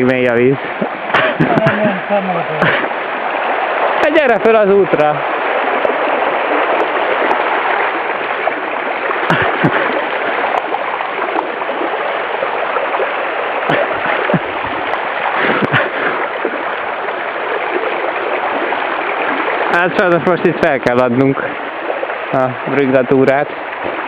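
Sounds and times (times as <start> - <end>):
floodwater rushing: 0.0 - 24.0
water splashes: 0.0 - 24.0.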